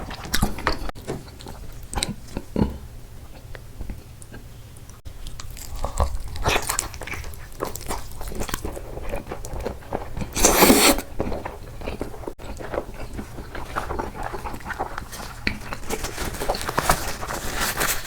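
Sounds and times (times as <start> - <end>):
person chewing with crunches: 0.0 - 18.0.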